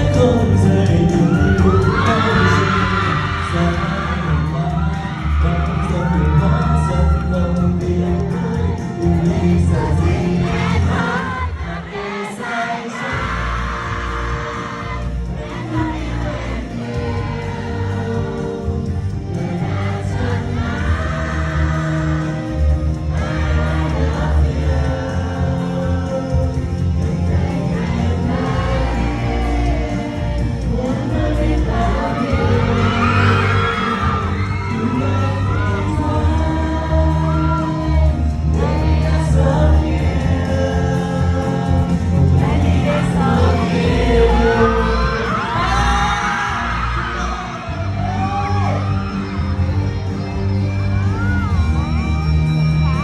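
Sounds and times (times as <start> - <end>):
person singing pop ballad: 0.0 - 49.1
backing track: 0.0 - 53.0.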